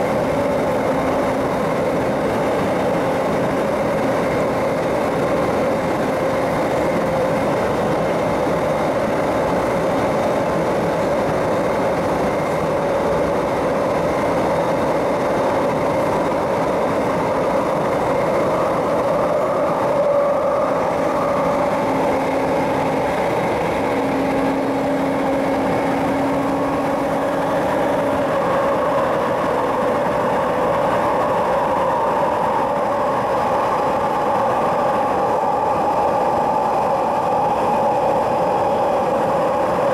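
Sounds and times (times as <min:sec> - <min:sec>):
train running on track: 0:00.0 - 0:39.9.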